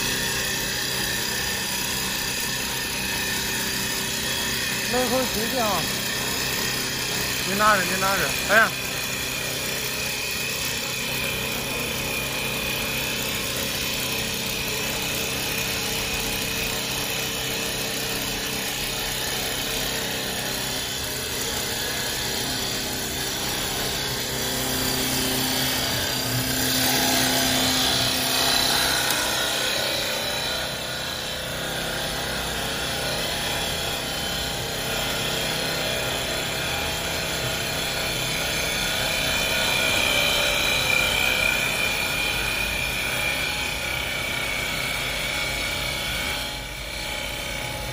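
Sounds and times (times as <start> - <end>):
lathe cutting tone: 0.0 - 47.9
wood lathe machine hum: 0.0 - 47.9.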